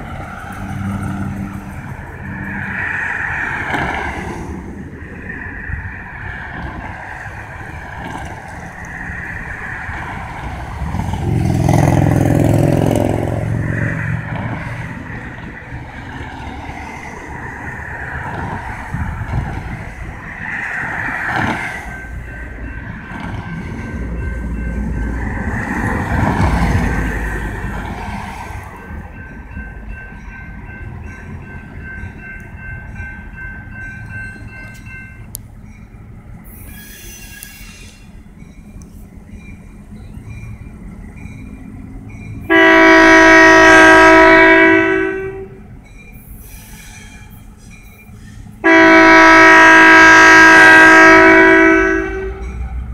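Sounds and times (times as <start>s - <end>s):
cars passing over crossing: 0.0s - 46.5s, 47.2s - 52.9s
diesel locomotive rumbling: 0.0s - 52.9s.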